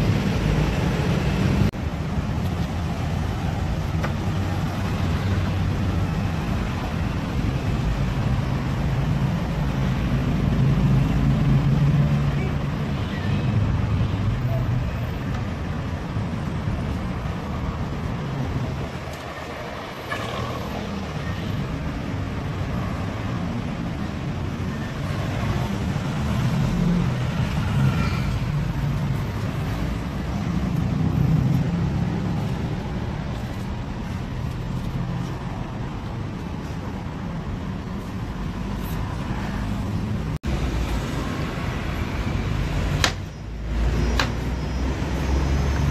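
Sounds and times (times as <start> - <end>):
low rumble of road traffic: 0.0 - 45.9.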